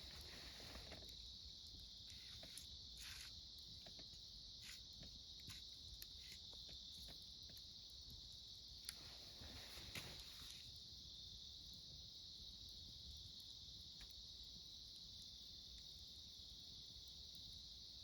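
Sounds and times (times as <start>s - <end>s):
campfire crackling and popping: 0.0s - 17.9s
crickets chirring: 0.0s - 18.0s.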